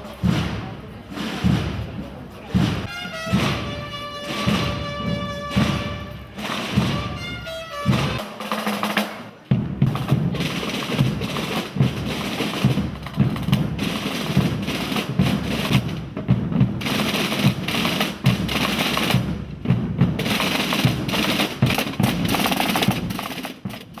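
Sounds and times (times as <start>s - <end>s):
marching drum beats: 0.0s - 24.0s
snare drum rolls: 0.0s - 24.0s.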